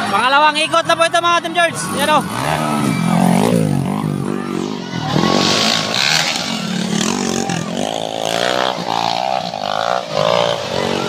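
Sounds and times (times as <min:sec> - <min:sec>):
small motorcycle engine revving: 0:01.8 - 0:11.0.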